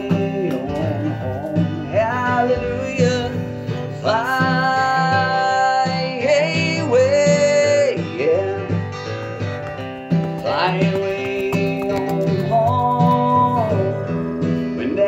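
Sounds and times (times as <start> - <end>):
acoustic guitar: 0.0 - 15.0
person singing country song: 0.0 - 15.0.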